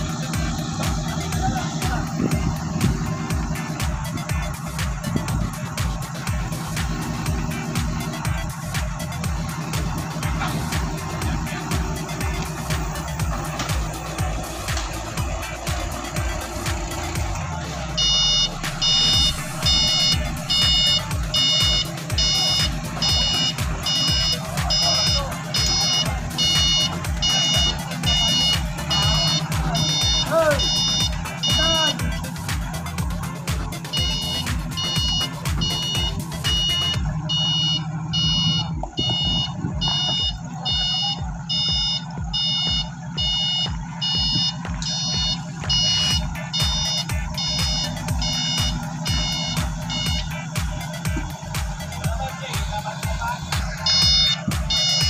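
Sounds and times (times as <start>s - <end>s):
forklift engine running: 0.0s - 55.0s
forklift reversing alarm beeping: 0.0s - 55.0s
music with thumping beat: 0.0s - 55.0s.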